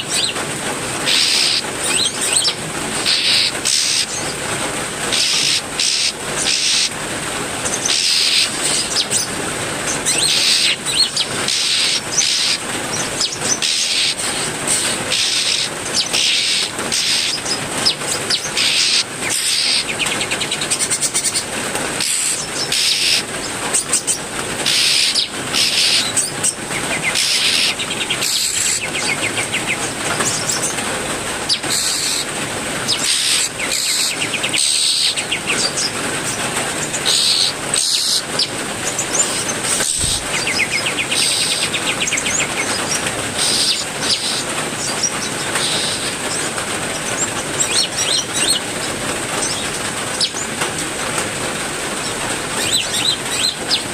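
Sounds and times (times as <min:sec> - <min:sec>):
heavy rain: 0:00.0 - 0:53.9
songbirds chirping and trilling: 0:00.0 - 0:53.9.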